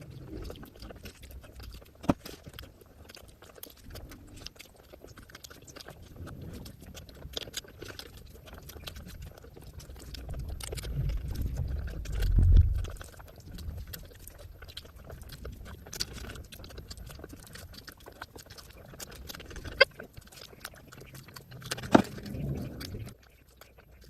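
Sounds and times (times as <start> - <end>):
close chewing: 0.0 - 24.0
wet mouth clicks: 0.0 - 24.0.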